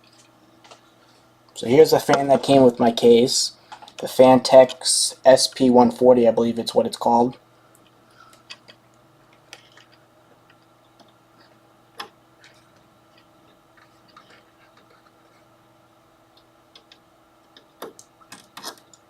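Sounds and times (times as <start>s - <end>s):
faint cooler fan hum: 0.0s - 19.0s.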